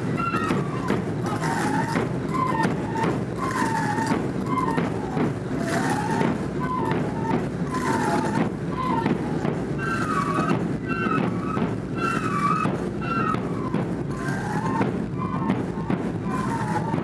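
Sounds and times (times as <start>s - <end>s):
crowd talking: 0.0s - 17.0s
drumming: 0.0s - 17.0s
wooden flute melody: 0.0s - 17.0s.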